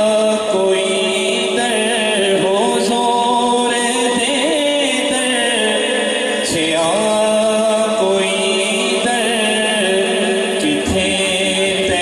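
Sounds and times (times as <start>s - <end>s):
drone of backing voices: 0.0s - 12.0s
man singing through a microphone: 0.0s - 12.0s.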